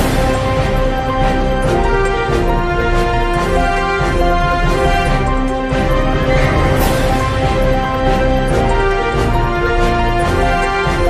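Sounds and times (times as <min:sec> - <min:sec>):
theme music with steady beat: 0:00.0 - 0:11.0.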